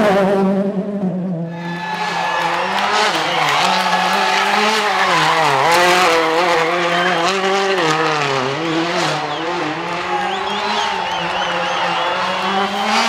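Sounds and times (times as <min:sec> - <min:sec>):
car engine at high revs: 0:02.0 - 0:13.0.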